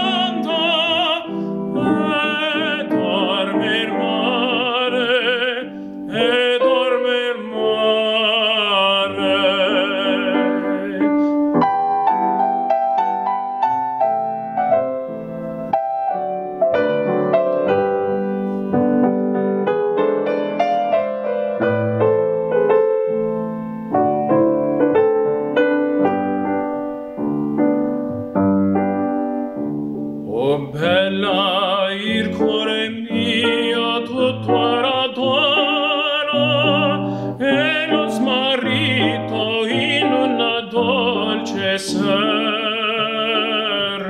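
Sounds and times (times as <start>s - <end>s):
grand piano playing: 0.0s - 44.0s.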